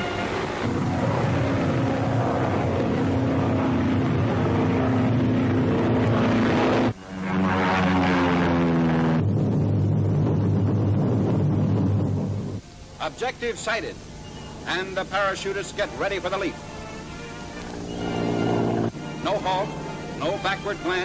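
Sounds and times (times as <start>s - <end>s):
propeller engines droning: 0.0s - 21.0s.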